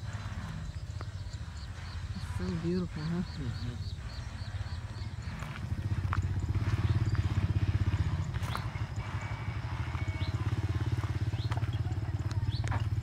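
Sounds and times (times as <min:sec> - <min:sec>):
high bird chirps: 0:00.0 - 0:13.0
small engine running: 0:00.0 - 0:13.0.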